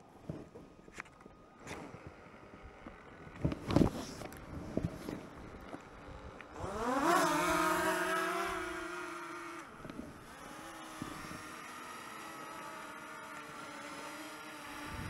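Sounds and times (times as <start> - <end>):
drone propellers whining and buzzing: 1.0 - 15.0.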